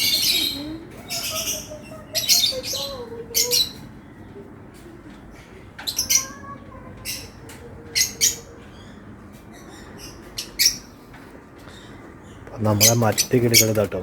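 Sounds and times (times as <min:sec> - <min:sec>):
lovebirds chirping shrilly: 0:00.0 - 0:04.3, 0:05.4 - 0:14.0.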